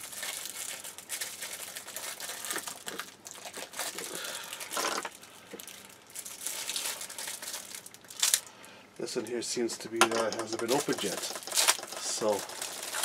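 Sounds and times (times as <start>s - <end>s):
plastic bag crinkling: 0.0s - 8.5s, 9.2s - 13.0s.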